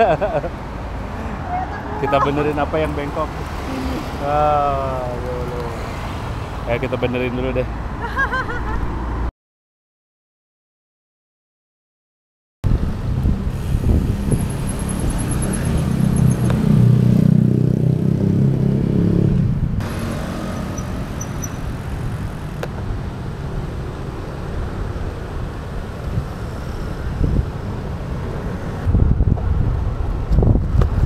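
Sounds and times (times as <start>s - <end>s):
street traffic: 0.0s - 9.3s, 12.6s - 31.0s
wind and road noise: 0.0s - 9.3s, 12.6s - 31.0s.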